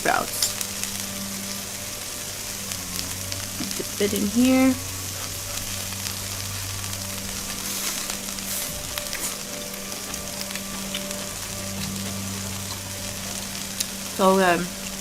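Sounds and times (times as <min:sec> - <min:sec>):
food sizzling on a grill: 0:00.0 - 0:15.0
low hum: 0:00.0 - 0:15.0.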